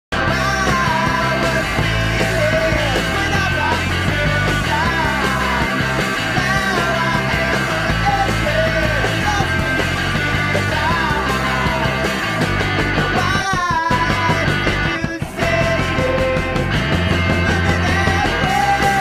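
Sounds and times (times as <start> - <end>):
rock music: 0.1 - 19.0.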